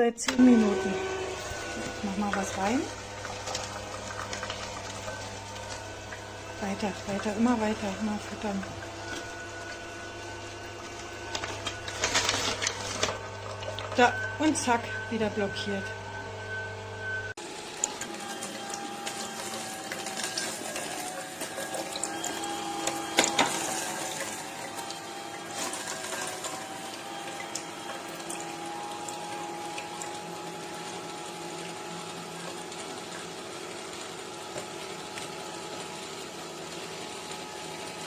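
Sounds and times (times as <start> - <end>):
juicer motor humming: 0.2 - 38.0.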